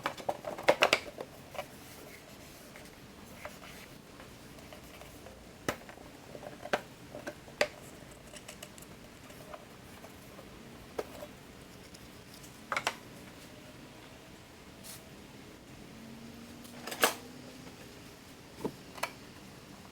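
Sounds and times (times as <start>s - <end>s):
faint steady background noise: 0.0s - 19.9s.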